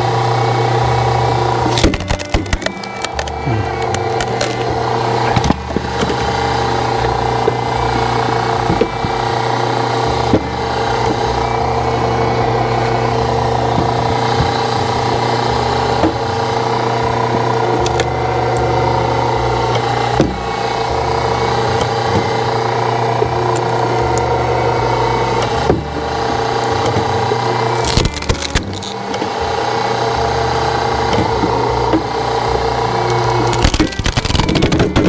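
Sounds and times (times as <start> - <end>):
log splitter power unit running: 0.0 - 35.0
wood cracking and knocking: 1.4 - 24.6, 25.4 - 29.6, 33.0 - 35.0.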